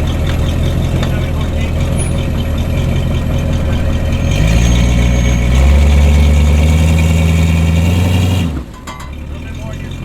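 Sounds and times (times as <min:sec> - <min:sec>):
vehicle engine idling and revving: 0:00.0 - 0:10.0.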